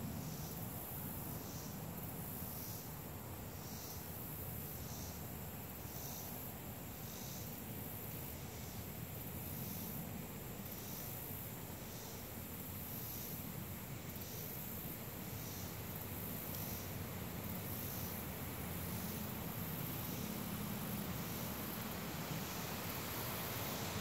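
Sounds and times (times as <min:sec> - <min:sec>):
faint high insect call: 0:00.0 - 0:24.0.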